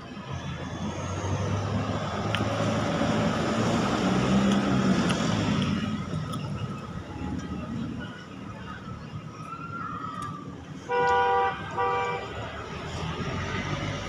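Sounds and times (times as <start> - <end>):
vehicle passing on road: 0.0 - 9.2, 10.3 - 14.0.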